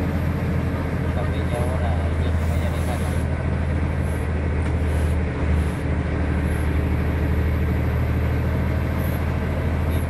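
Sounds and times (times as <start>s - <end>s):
bus diesel engine drone: 0.0s - 10.0s.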